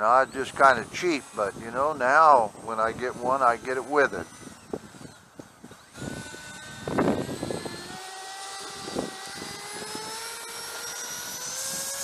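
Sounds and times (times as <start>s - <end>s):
wind buffeting microphone: 0.0s - 10.4s, 11.0s - 12.0s
electric ducted fan whining: 0.0s - 12.0s.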